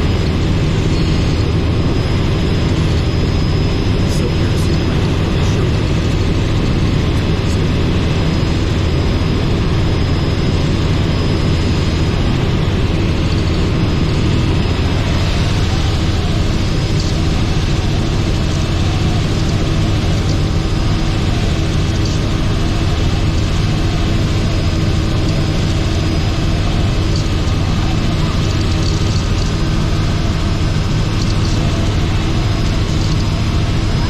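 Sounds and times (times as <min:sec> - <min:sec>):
helicopter engine and rotors droning: 0:00.0 - 0:34.0.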